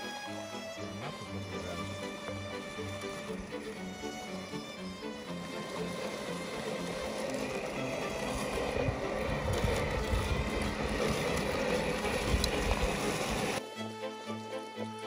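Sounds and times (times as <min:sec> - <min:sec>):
robotic lawn mower cutting grass: 0:00.0 - 0:15.0.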